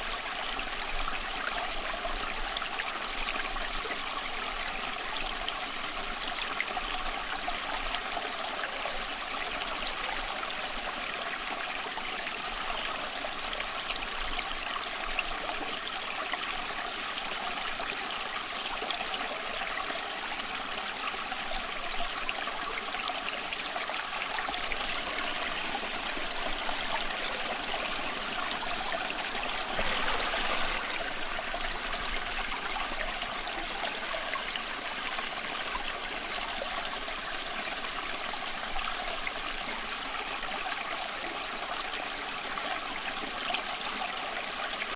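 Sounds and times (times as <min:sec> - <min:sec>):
stream trickling over rocks: 0:00.0 - 0:44.9.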